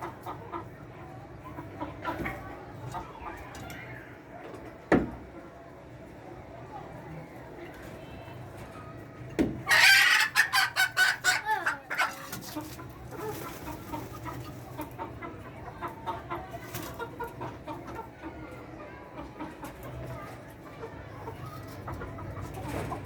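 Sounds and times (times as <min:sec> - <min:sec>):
chickens calling: 0:00.0 - 0:23.0
chickens clucking: 0:00.0 - 0:23.0.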